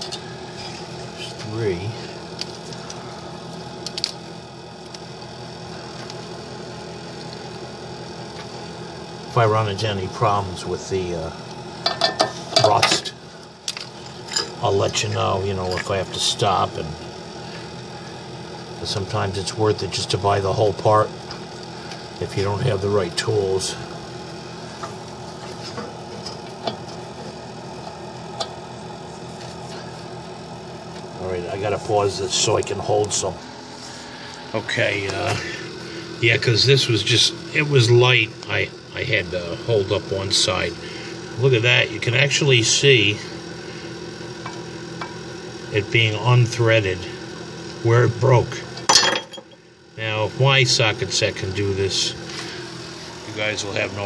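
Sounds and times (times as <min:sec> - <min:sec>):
space heater humming: 0:00.0 - 0:54.0.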